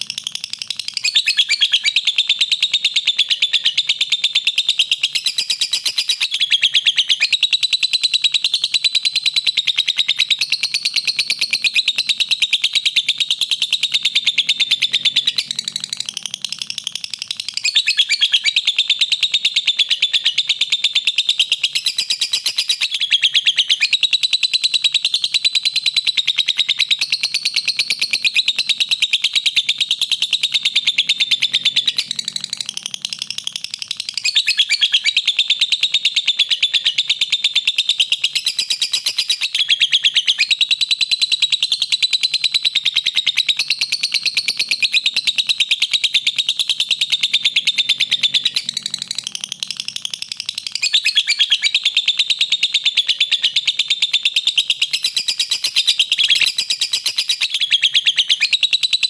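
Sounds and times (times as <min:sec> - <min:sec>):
lovebird chirping song: 0:00.0 - 0:59.0.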